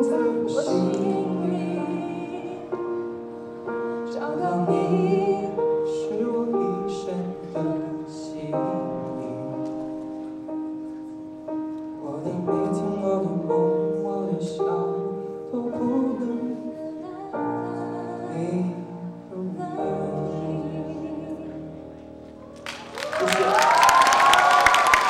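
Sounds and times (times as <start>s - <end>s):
electric piano chords: 0.0s - 23.8s.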